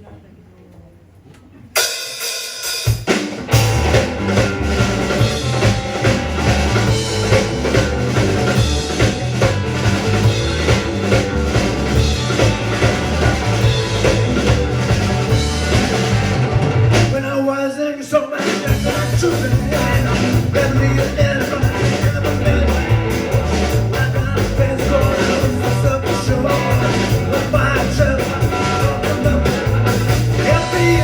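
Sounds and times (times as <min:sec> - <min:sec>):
drum kit beat: 0:01.8 - 0:17.3, 0:18.4 - 0:31.0
rock band playing: 0:01.8 - 0:17.4, 0:18.2 - 0:31.0
bass line: 0:03.4 - 0:17.3, 0:18.6 - 0:31.0.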